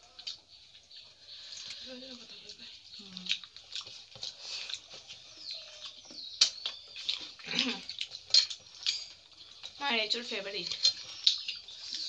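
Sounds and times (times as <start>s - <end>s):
hands mixing food on plates: 0.0s - 12.0s
wet chewing and lip-smacking: 0.0s - 12.0s.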